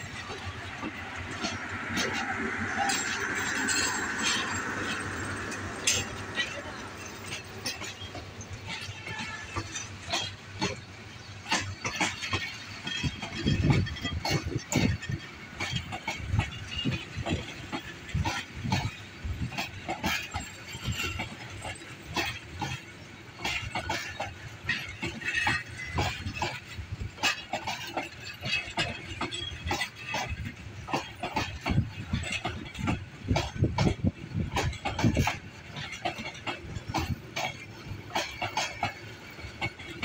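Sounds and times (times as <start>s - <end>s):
train wheels clattering over track: 0.0s - 40.0s.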